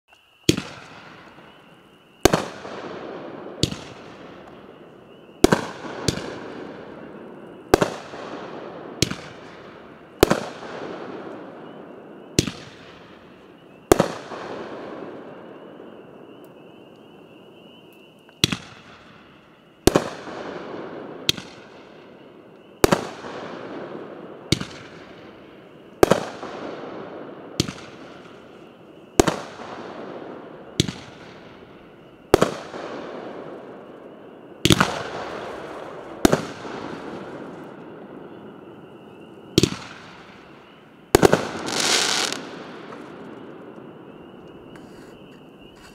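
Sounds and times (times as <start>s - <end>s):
firework bangs: 0.4s - 16.0s, 18.4s - 45.9s.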